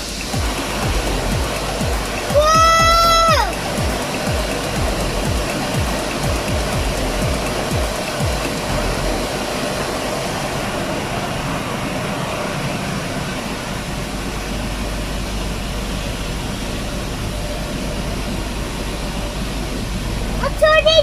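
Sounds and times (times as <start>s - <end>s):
car wash water and machinery: 0.0s - 21.0s.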